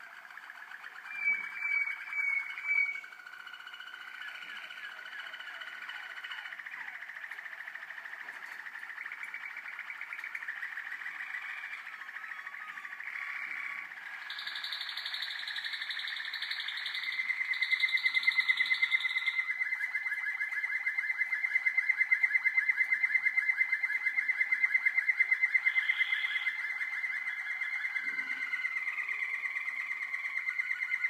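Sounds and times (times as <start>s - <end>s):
canaries singing trills: 0.0s - 31.0s.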